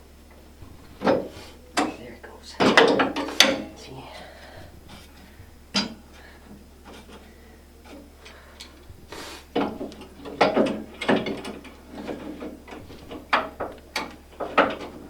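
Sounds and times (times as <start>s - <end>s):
metal parts clicking and clanking: 0.6s - 3.8s, 4.6s - 15.0s.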